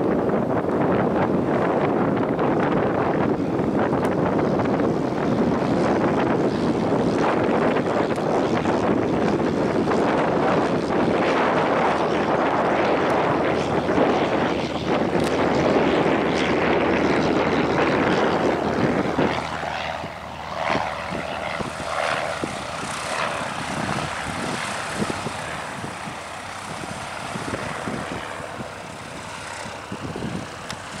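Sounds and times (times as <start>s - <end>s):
light aircraft engine and propeller: 0.0s - 31.0s.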